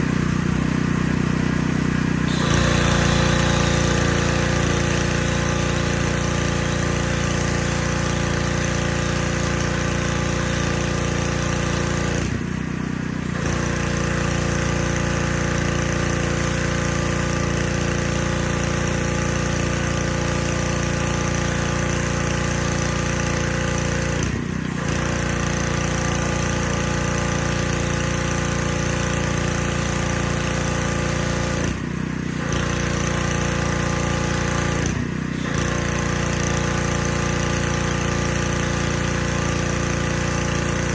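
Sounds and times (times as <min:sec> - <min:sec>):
pressure washer spraying: 0:00.0 - 0:40.9.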